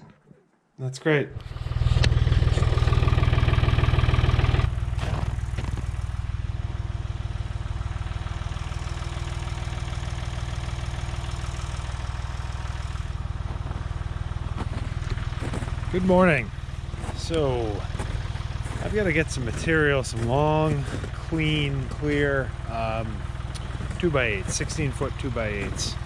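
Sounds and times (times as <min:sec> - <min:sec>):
engine idling: 0:01.3 - 0:26.0.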